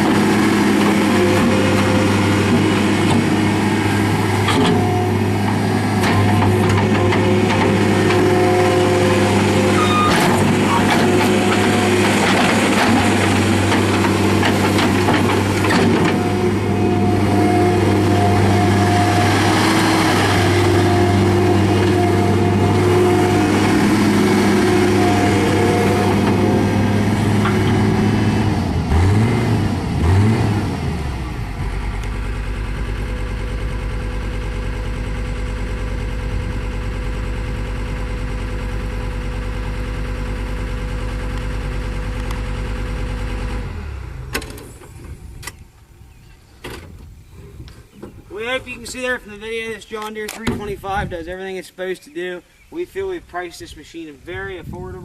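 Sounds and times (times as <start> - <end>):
diesel engine revving and idling: 0.0 - 46.2, 53.0 - 55.0.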